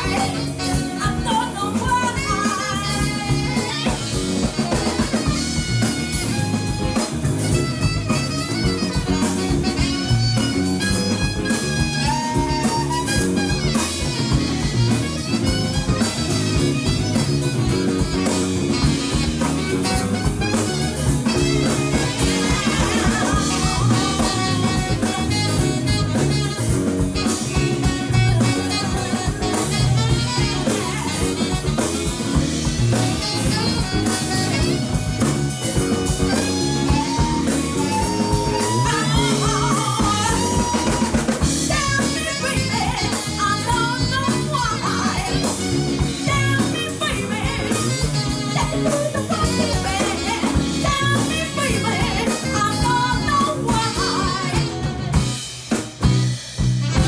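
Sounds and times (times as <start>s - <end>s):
drum kit beat: 0.0s - 57.0s
live blues band playing: 0.0s - 57.0s.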